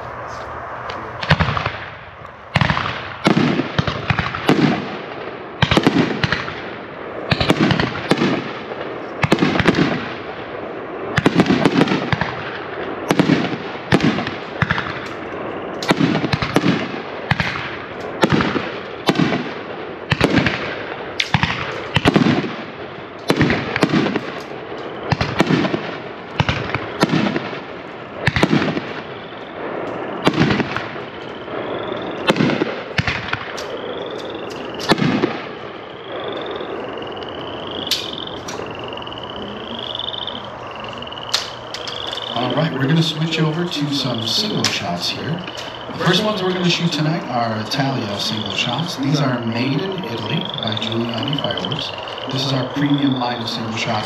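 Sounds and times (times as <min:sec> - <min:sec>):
firework shells bursting with echo: 0:00.0 - 0:54.0.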